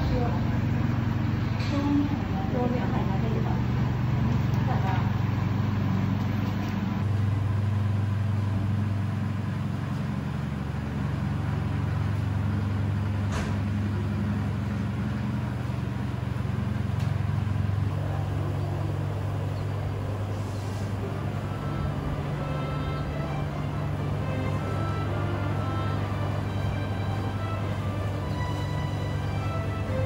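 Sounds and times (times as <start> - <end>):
electric motor hum: 0.0 - 30.0.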